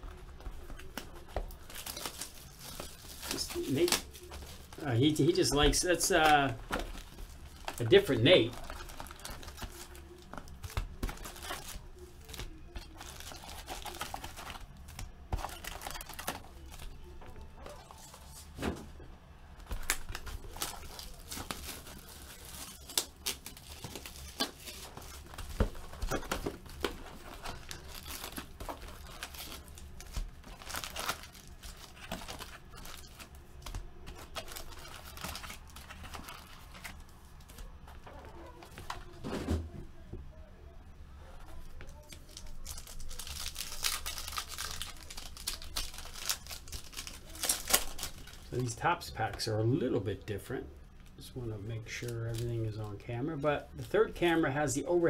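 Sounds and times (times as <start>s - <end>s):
foil wrappers tearing and crinkling: 0.0s - 18.5s, 19.6s - 39.2s, 41.4s - 48.8s.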